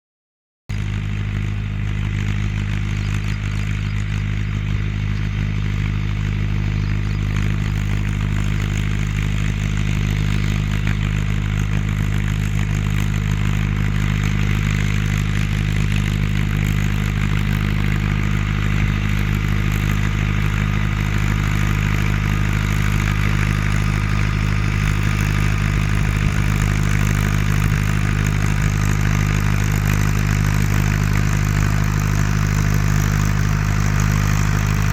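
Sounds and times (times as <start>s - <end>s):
clatter: 0.7s - 34.9s
tractor diesel engine running: 0.7s - 34.9s.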